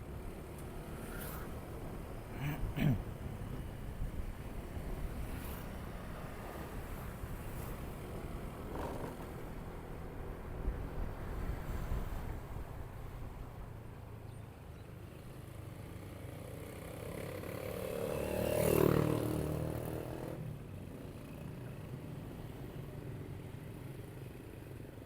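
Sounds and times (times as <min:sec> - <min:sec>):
motorcycle engine and road rumble: 0:00.0 - 0:25.0.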